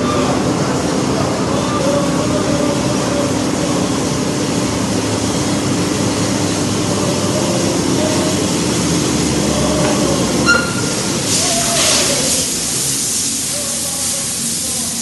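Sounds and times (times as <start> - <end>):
truck engine and machinery drone: 0.0 - 15.0.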